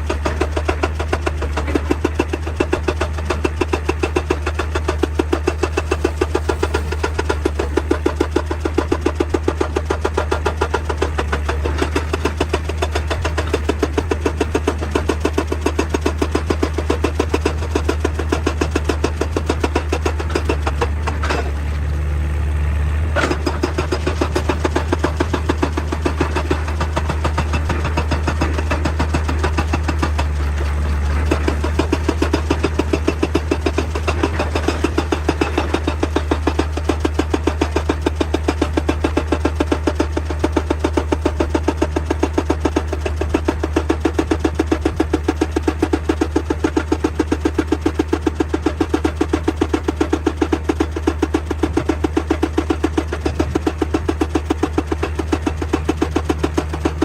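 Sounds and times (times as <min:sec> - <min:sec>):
hydraulic rock breaker hammering: 0:00.0 - 0:21.9, 0:23.1 - 0:57.0
diesel engine drone: 0:00.0 - 0:57.0.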